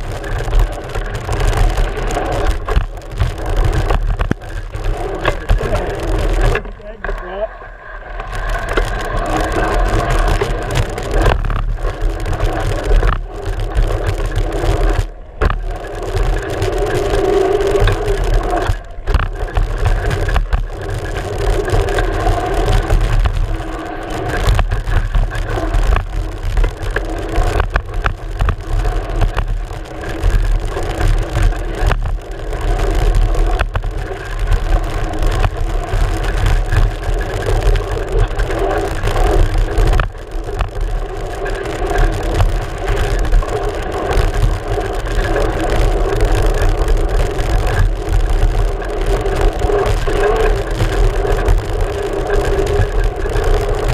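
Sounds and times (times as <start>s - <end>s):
bike wheel knocking and rattling: 0.0s - 7.2s, 8.2s - 53.9s
tyre and wind rumble: 0.0s - 53.9s.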